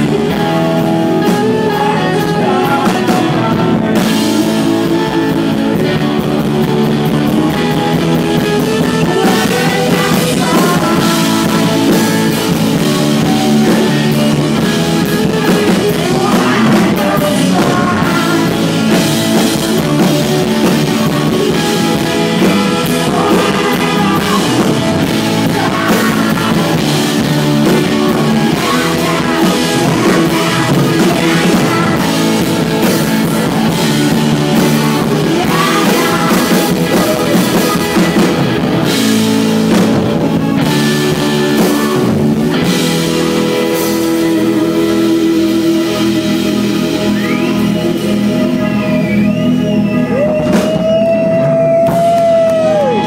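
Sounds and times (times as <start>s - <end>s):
drum kit: 0.0s - 53.0s
electric guitar: 0.0s - 53.0s
person singing: 0.0s - 53.0s.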